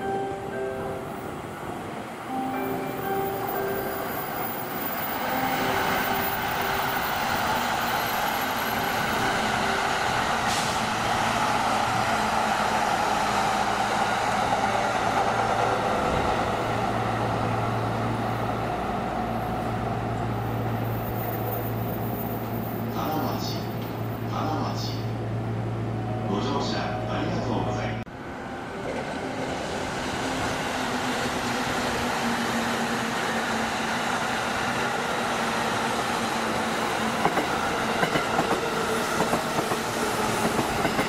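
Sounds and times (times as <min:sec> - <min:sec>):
train rushing rumble: 0:03.2 - 0:41.0.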